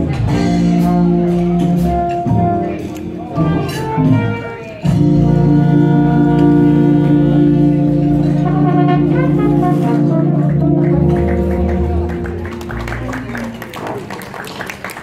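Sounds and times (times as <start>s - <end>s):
upright bass notes: 0.0s - 13.3s
brass horn: 0.0s - 13.4s
small jazz gospel band playing: 0.0s - 15.0s.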